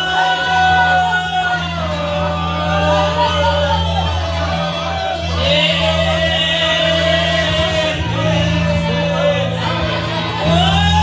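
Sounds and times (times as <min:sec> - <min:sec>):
low instrumental accompaniment: 0:00.0 - 0:11.0
voices singing long notes: 0:00.0 - 0:11.0.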